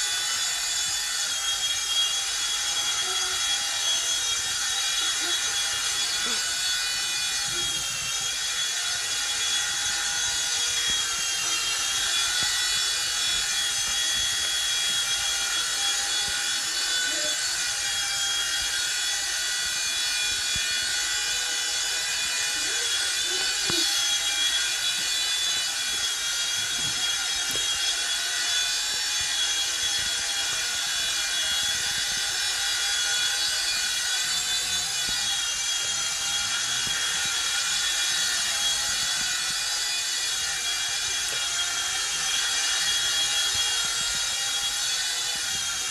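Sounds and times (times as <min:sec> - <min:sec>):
rc helicopter motor whine: 0:00.0 - 0:45.9.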